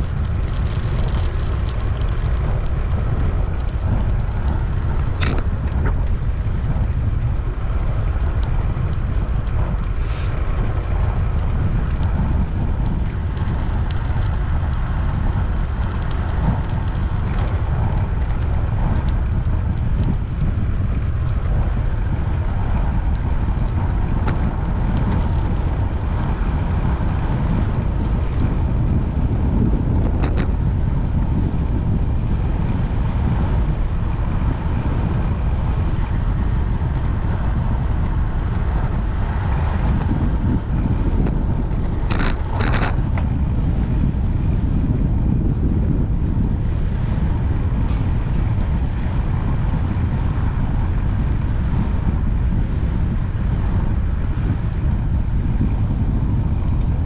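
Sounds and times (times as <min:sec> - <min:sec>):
wind rumbling over microphone: 0:00.0 - 0:57.0.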